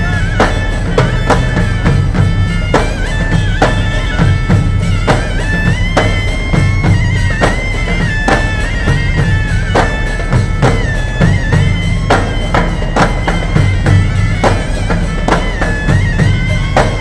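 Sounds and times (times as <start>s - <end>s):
steady drum beat: 0.0s - 17.0s
wind instrument melody: 0.0s - 17.0s.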